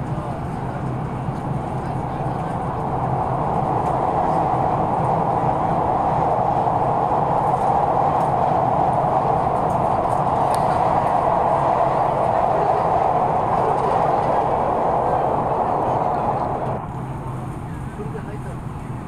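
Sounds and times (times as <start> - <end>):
train rushing rumble from inside: 0.0 - 19.0.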